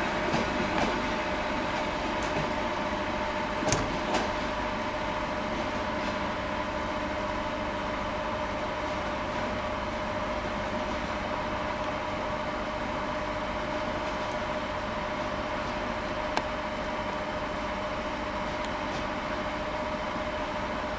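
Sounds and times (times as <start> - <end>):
mechanical hum with high whine: 0.0 - 20.9.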